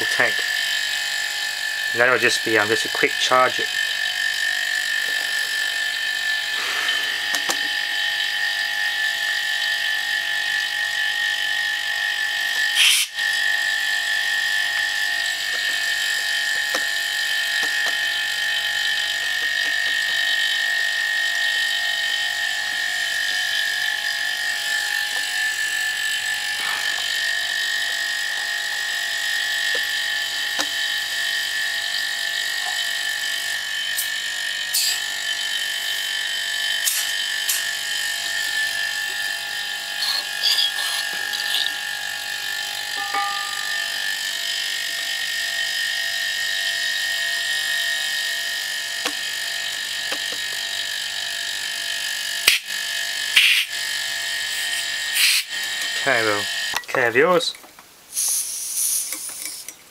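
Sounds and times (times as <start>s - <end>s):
compressor humming with high whine: 0.0s - 59.9s.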